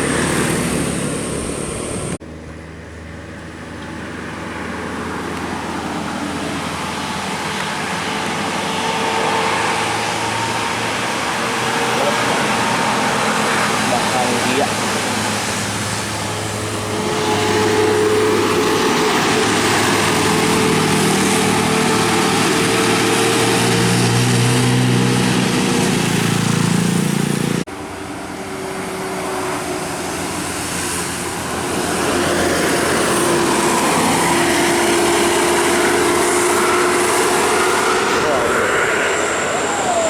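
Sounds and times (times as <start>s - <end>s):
bus engine running: 0.0s - 40.0s
road noise: 0.0s - 40.0s.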